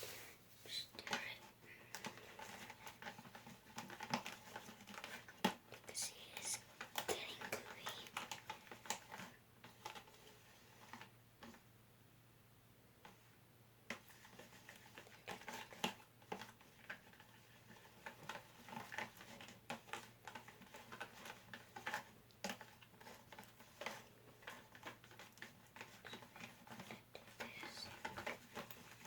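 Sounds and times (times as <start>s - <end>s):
stirring thick slime: 0.9s - 11.6s, 13.9s - 29.0s.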